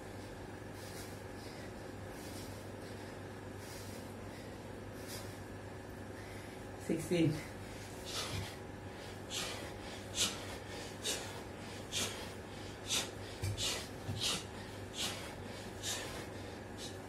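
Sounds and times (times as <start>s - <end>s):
man breathing heavily: 0.2s - 17.0s.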